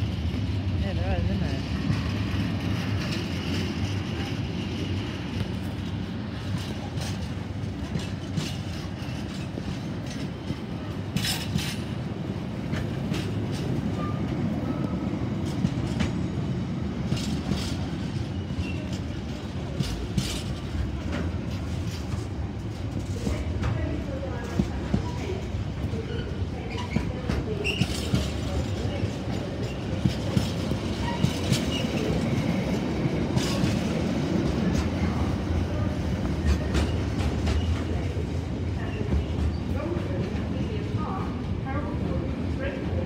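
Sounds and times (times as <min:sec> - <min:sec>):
train wagons rumbling: 0:00.0 - 0:43.0
wheels clacking over rail joints: 0:01.7 - 0:40.4.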